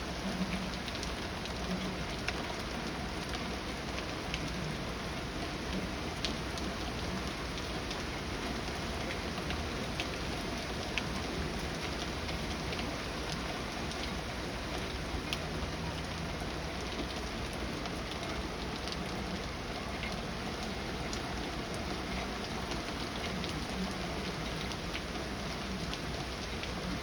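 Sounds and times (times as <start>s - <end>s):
raindrops ticking on surface: 0.0s - 27.0s.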